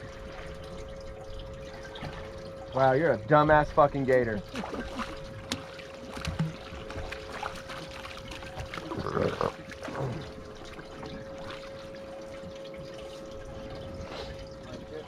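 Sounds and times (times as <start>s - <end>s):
water lapping around boat: 0.0s - 15.0s.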